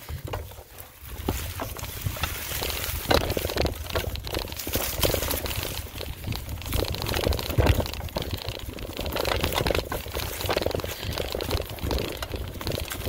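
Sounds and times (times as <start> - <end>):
bike tyres crunching on dirt: 0.0 - 13.0
wind rumbling on microphone: 0.0 - 13.0.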